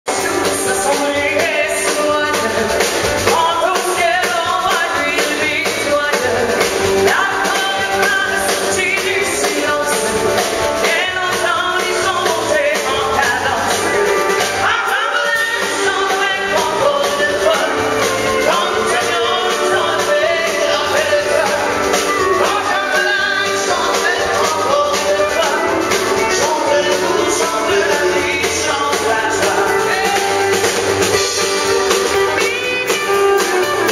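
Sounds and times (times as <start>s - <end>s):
live country band playing: 0.1s - 33.9s
woman singing: 0.1s - 33.9s.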